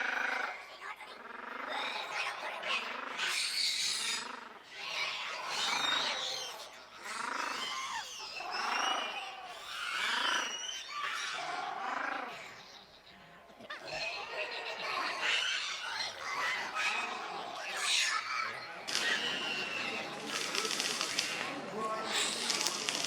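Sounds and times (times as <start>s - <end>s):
monkey screeching calls: 3.2s - 13.1s, 13.7s - 23.0s.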